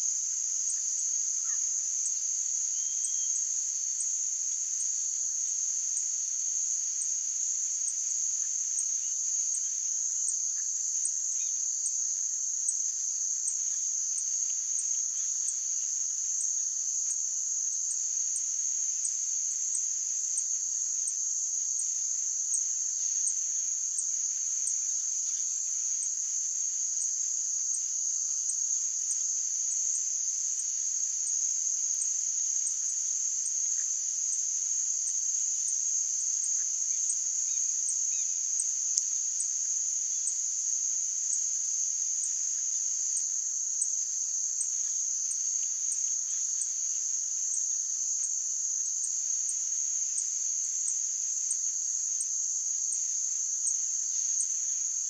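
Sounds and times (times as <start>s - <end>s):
insect chorus trilling: 0.0s - 55.0s.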